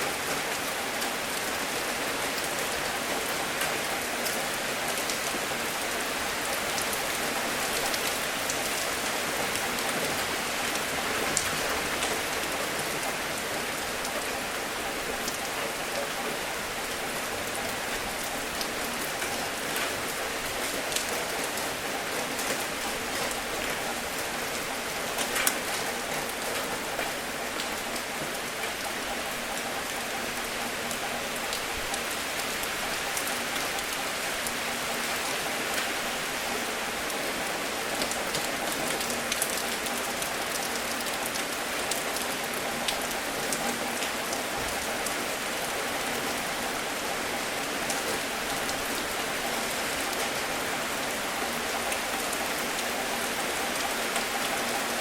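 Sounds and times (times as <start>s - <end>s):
raindrops ticking on a surface: 0.0s - 55.0s
steady rain hiss: 0.0s - 55.0s.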